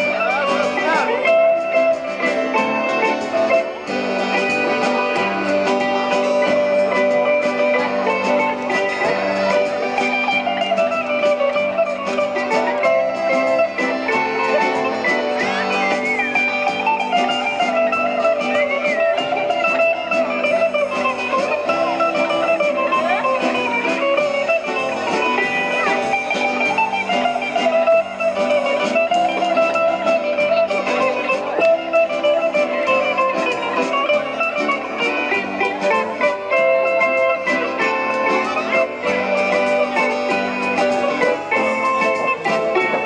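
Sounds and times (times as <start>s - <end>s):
live band playing folk dance music: 0.0s - 43.0s.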